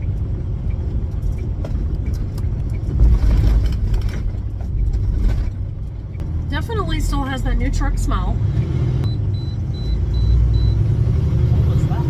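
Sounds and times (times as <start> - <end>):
truck engine rumble from cab: 0.0 - 12.0.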